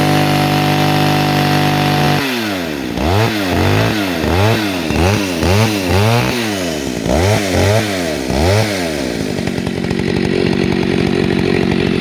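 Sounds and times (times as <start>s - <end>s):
chainsaw revving and idling: 0.0s - 12.0s.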